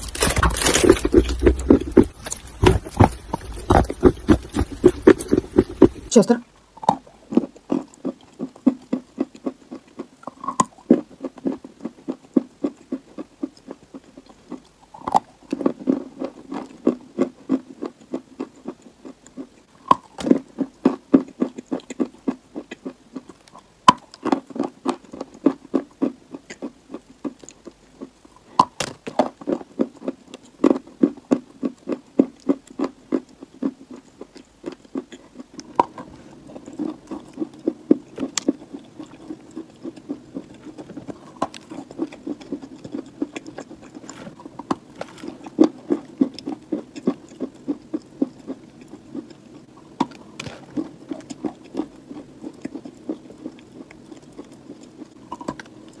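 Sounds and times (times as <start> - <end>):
chewing and crunching chalk: 0.0 - 6.1, 6.8 - 56.0.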